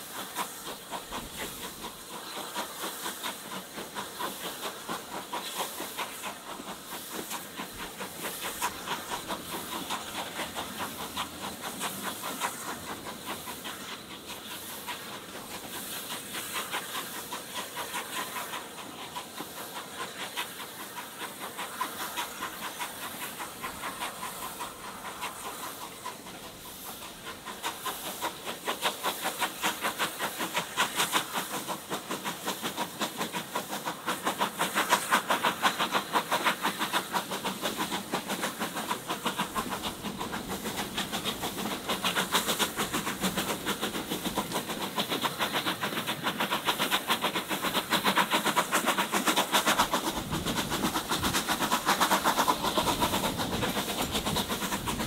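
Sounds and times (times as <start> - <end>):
steam hissing: 0.0 - 55.0
steam locomotive chuffing: 0.0 - 55.0.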